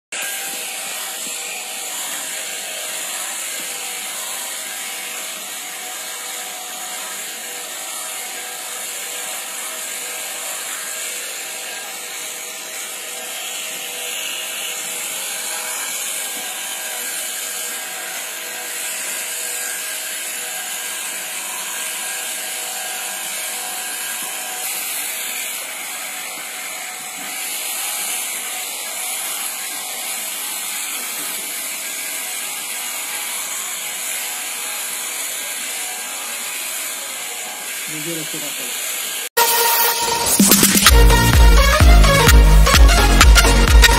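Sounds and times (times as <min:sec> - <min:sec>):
electric clippers shearing fleece: 0:00.1 - 0:43.9.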